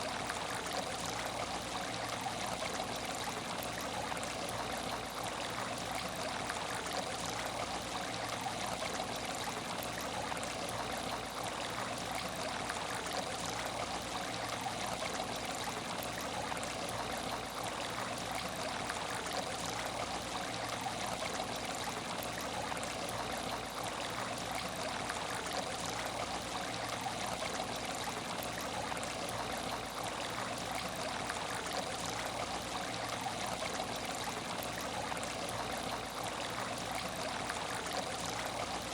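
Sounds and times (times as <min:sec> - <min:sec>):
aquarium water trickling: 0:00.0 - 0:38.9.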